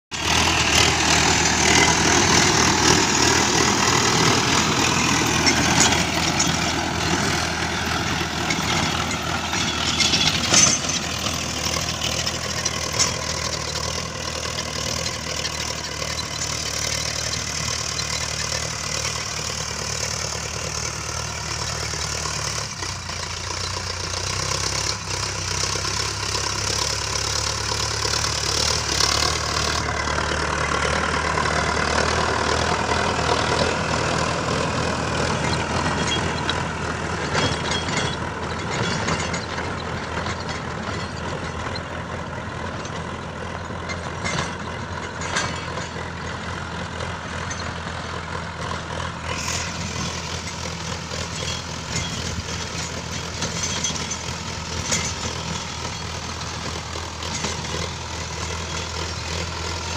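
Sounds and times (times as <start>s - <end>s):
rotavator tilling dry soil: 0.1s - 59.9s
tractor diesel engine running: 0.1s - 59.9s.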